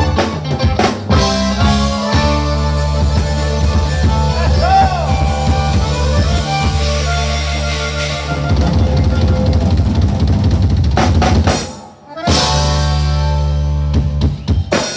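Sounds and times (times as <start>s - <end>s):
band with accordion and drums: 0.0s - 14.9s
drums: 0.0s - 14.9s.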